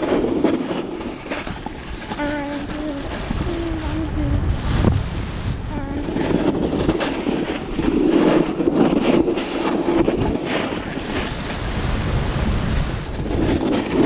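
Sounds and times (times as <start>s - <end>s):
snowboard scraping over snow: 0.0s - 14.0s
wind buffeting microphone: 0.0s - 14.0s.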